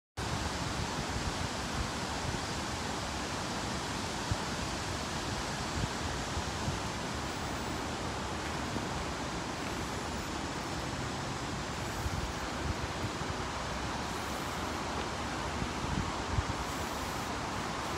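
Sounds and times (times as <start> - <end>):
waterfall rushing: 0.2 - 17.9.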